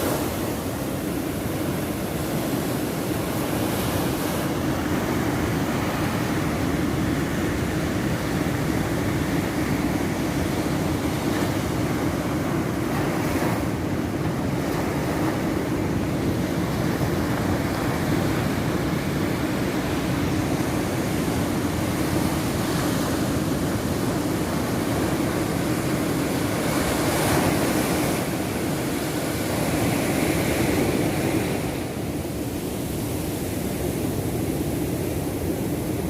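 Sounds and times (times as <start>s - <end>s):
surf washing onto beach: 0.0s - 36.0s
wind on microphone: 0.0s - 36.0s.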